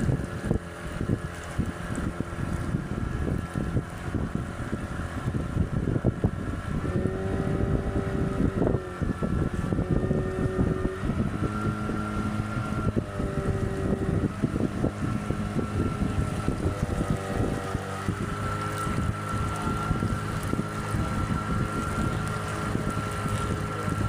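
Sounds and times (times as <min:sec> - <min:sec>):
boat motor running: 0:00.0 - 0:24.0
wind buffeting microphone: 0:00.0 - 0:24.0.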